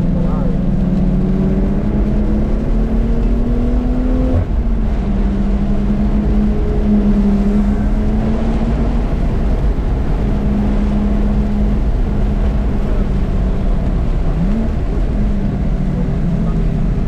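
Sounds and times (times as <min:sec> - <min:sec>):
car engine running: 0:00.0 - 0:17.0
road noise: 0:00.0 - 0:17.0.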